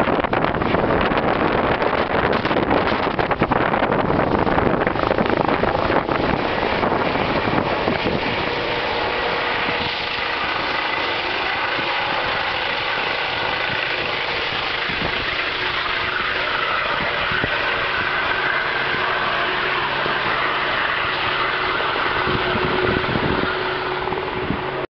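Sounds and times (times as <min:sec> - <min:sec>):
helicopter rotor and engine: 0:00.0 - 0:24.9
steady whine: 0:00.0 - 0:24.9
wind buffeting microphone: 0:00.0 - 0:24.9.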